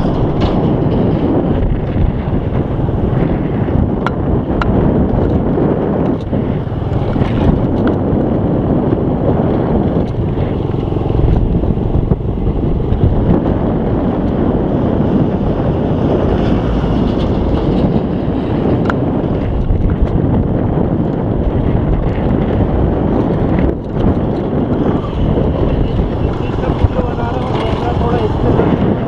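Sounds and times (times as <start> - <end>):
motorcycle running: 0.0 - 29.0
road noise: 0.0 - 29.0
wind buffeting microphone: 0.0 - 29.0.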